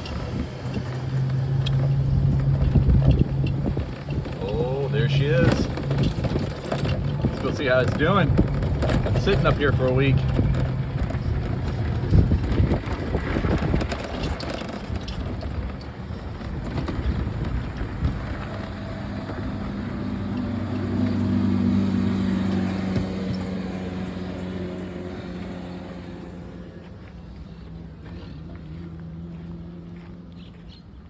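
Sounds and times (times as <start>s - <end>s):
knocks and clatter: 0.0s - 26.4s
vehicle engine humming: 0.0s - 31.0s.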